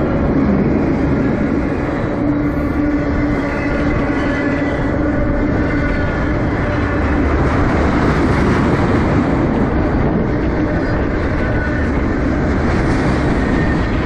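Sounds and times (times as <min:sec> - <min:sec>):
steel wheels on rails: 0:00.0 - 0:14.0.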